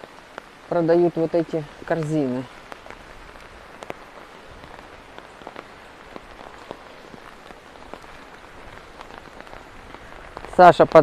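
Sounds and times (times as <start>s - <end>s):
raindrops clicking: 0.0s - 11.0s
steady rain falling: 0.0s - 11.0s.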